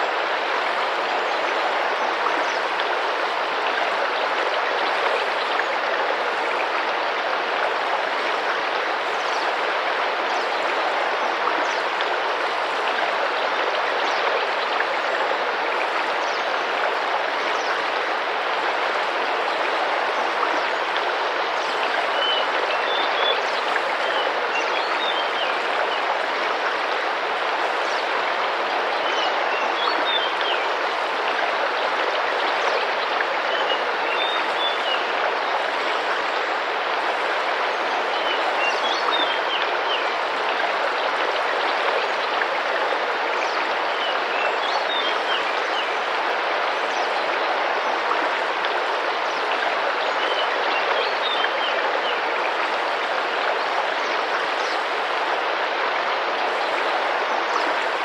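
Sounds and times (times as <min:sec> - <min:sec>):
river water running and splashing: 0:00.0 - 0:58.0.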